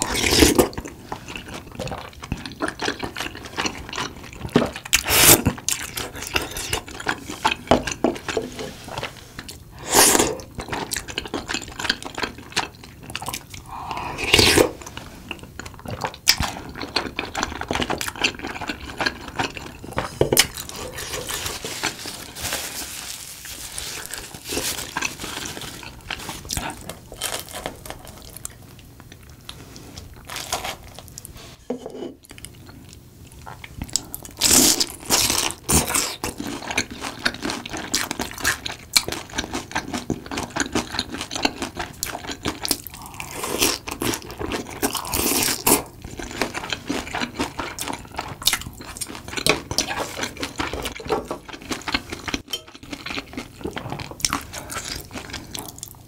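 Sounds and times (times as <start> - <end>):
crunching and wet chewing: 0.0 - 22.4, 23.4 - 31.3, 32.2 - 56.0.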